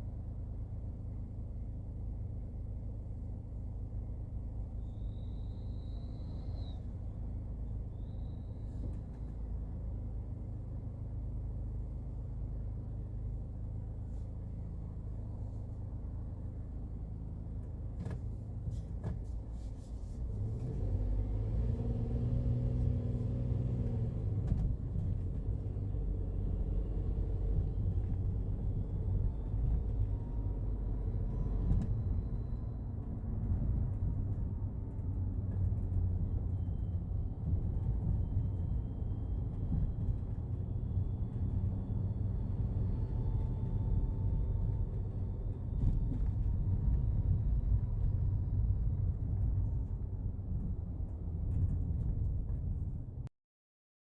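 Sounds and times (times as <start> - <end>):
van engine running: 0.0 - 53.3.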